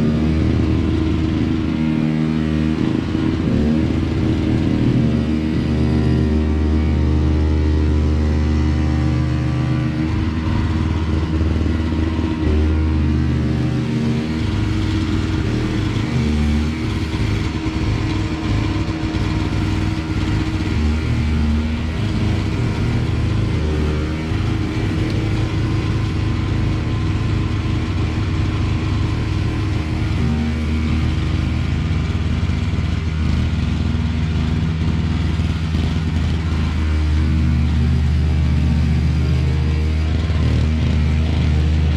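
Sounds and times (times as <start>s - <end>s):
snowblower engine running: 0.0s - 41.9s.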